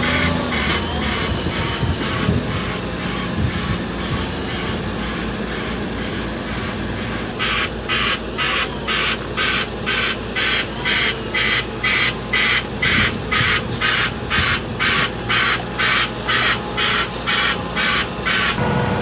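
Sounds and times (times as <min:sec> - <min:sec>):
diesel truck engine running: 0:00.0 - 0:19.0
hissing back-up alarm: 0:00.0 - 0:19.0.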